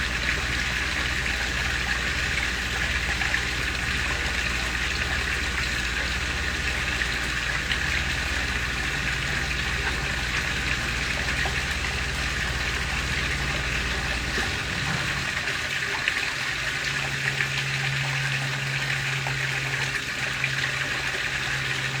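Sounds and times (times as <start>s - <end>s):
small waterfall splashing: 0.0s - 22.0s.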